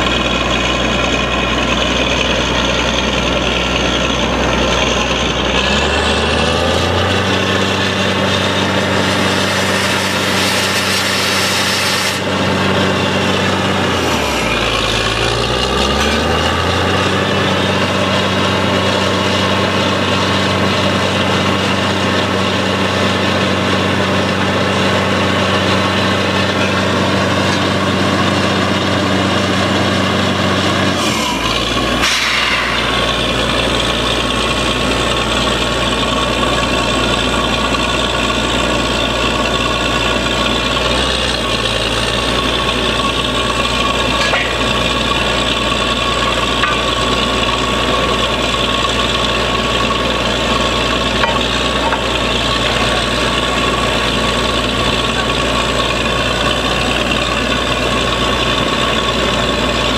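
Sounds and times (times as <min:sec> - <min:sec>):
drilling rig engine running: 0:00.0 - 0:59.9.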